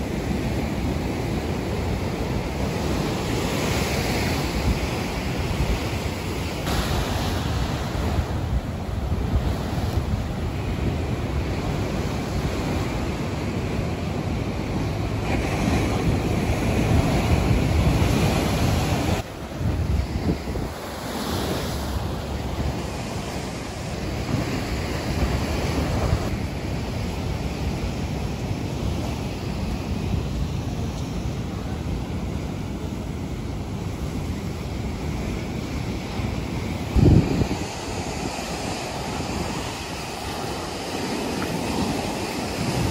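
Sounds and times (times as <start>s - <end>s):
ocean surf rushing: 0.0s - 42.9s
wind gusting on microphone: 0.0s - 42.9s.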